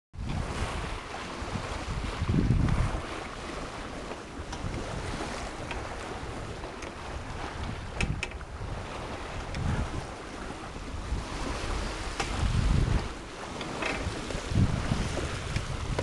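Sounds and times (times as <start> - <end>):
water rushing along hull: 0.2 - 16.0
wind buffeting microphone: 0.2 - 16.0.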